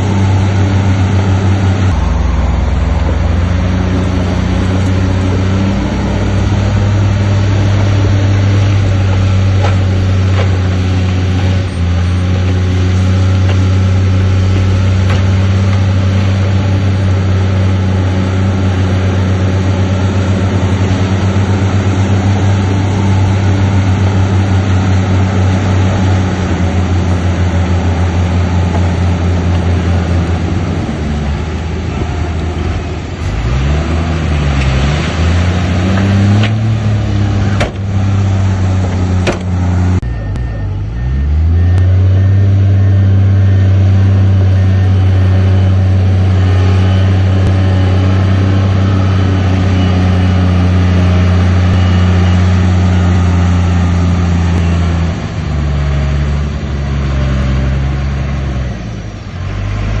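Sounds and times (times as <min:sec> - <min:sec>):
heavy diesel engine working: 0:00.0 - 1:00.0.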